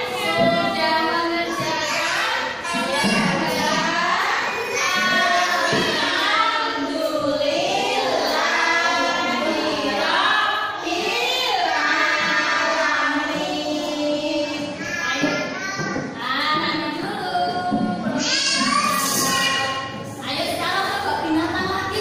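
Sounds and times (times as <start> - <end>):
children singing in unison: 0.0 - 20.2.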